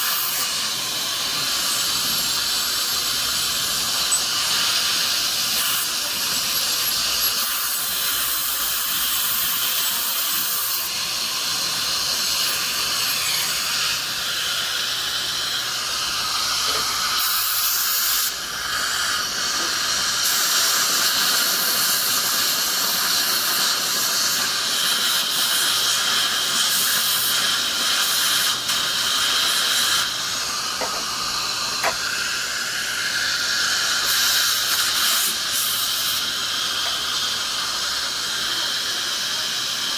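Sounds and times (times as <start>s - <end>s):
dental equipment hissing: 0.0s - 39.9s.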